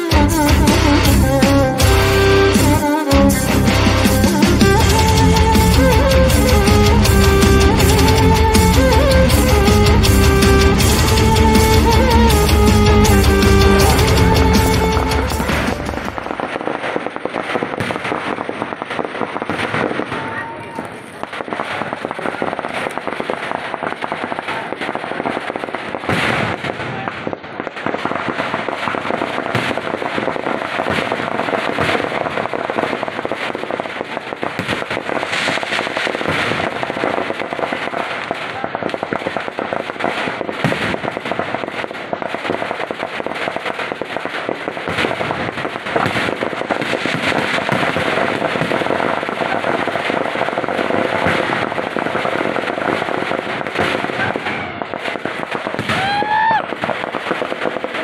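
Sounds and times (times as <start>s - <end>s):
firecrackers bursting: 0.0s - 58.0s.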